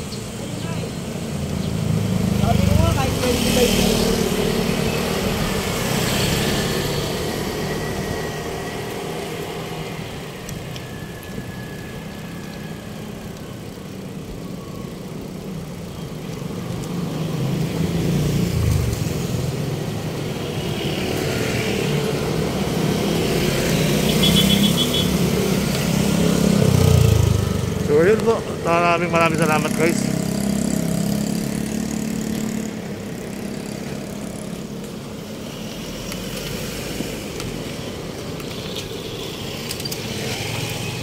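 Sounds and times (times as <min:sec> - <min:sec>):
vehicle engines passing: 0:00.0 - 0:41.0.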